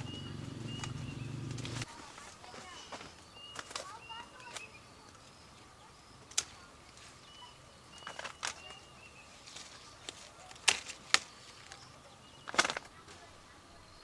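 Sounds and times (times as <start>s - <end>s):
faint bird chirps: 0.0s - 10.5s, 11.2s - 14.0s.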